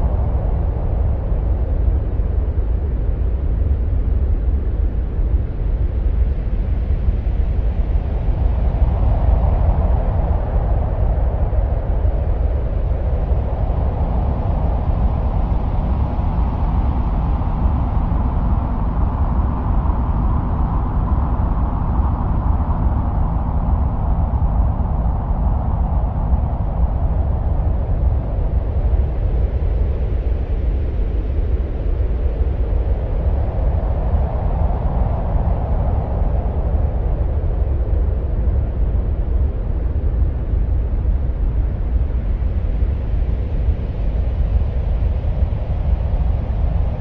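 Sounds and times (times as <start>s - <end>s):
deep wind-like rumble: 0.0s - 47.0s.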